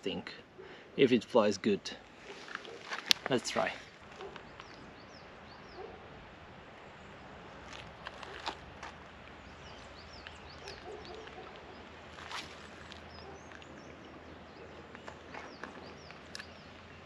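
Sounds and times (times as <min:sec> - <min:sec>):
low outdoor background: 0:00.0 - 0:17.0
small birds chirping: 0:02.0 - 0:06.1, 0:06.9 - 0:17.0.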